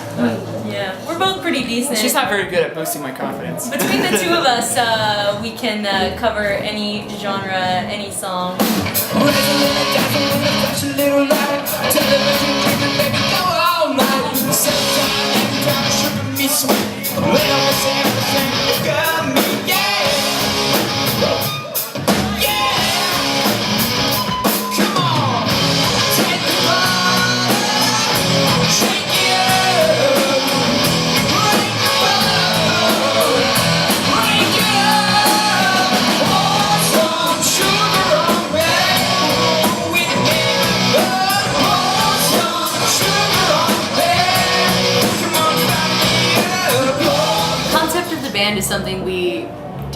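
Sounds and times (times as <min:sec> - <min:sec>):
rock music with singer: 0:07.0 - 0:48.3.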